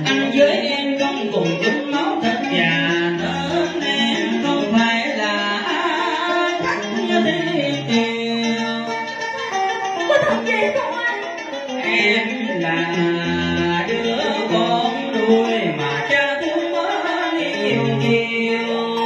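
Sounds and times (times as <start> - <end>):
person singing through a microphone: 0.0 - 9.3, 10.1 - 19.0
plucked string accompaniment: 0.0 - 19.0.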